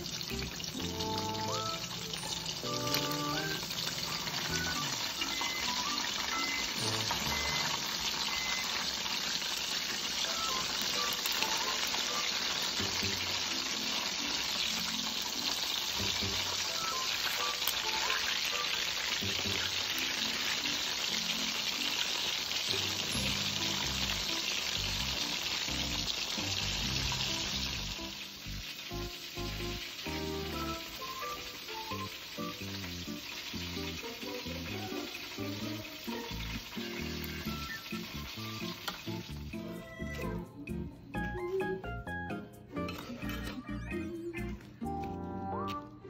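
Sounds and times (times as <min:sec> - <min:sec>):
meat deep-frying in oil: 0:00.0 - 0:40.1
background music: 0:00.0 - 0:46.0.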